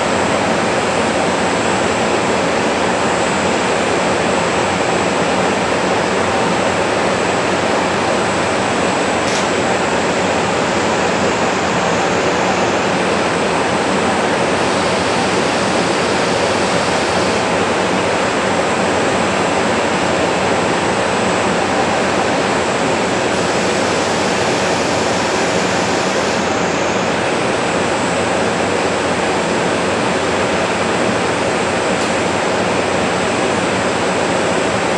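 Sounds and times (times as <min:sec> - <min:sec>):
diesel railcar engines idling: 0:00.0 - 0:34.9.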